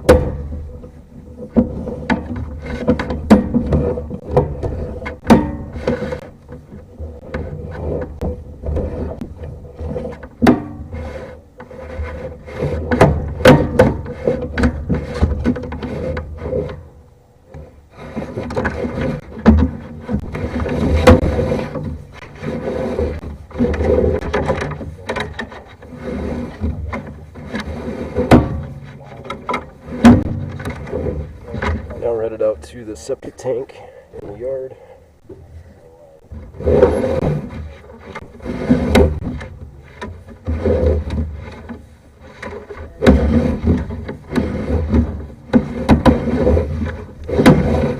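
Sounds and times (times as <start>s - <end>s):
cable scraping in a drain pipe: 0.0s - 35.6s, 36.2s - 47.9s.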